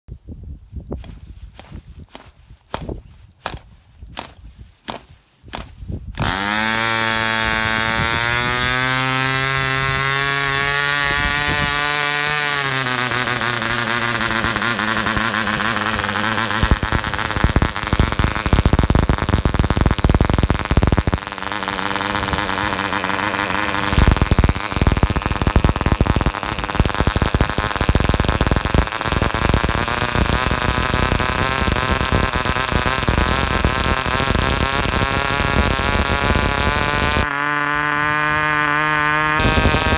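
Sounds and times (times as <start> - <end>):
model diesel engine running: 6.2 - 39.9.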